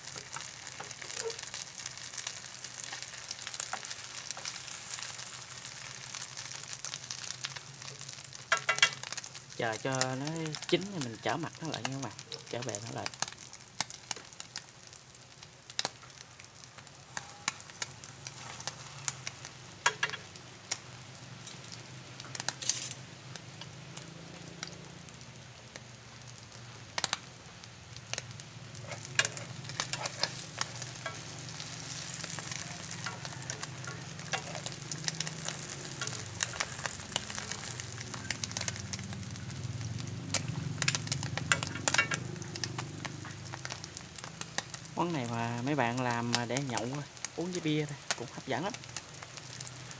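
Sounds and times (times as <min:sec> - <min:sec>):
eggs sizzling in hot oil: 0:00.0 - 0:49.9.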